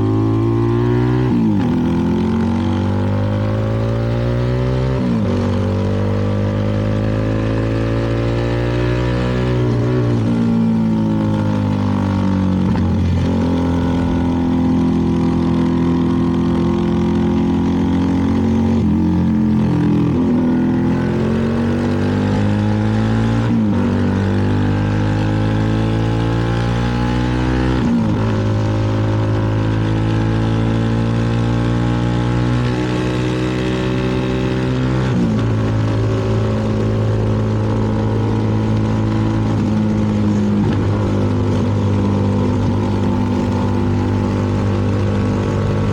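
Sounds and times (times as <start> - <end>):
motorcycle engine revving: 0.0 - 45.9
wind and road noise: 0.0 - 45.9.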